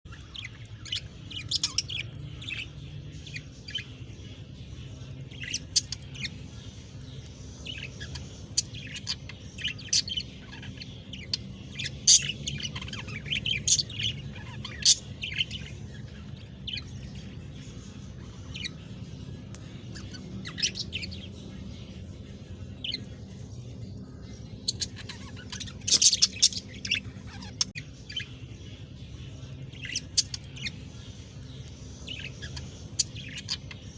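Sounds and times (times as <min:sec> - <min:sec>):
budgerigars chirping: 0:00.1 - 0:33.9
steady low hum: 0:00.1 - 0:33.9.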